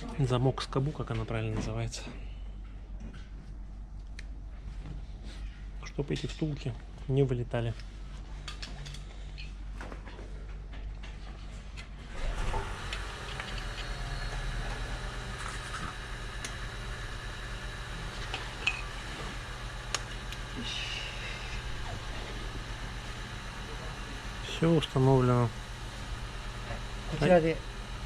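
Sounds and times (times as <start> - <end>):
workshop machinery hum: 0.0 - 28.0.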